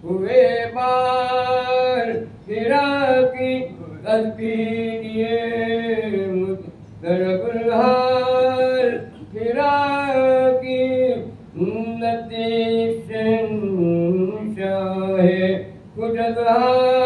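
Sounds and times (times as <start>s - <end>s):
man singing unaccompanied elegy: 0.0s - 17.0s.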